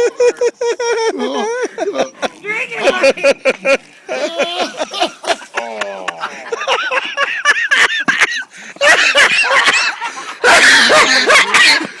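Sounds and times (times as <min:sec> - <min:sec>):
people laughing and whooping: 0:00.0 - 0:12.0.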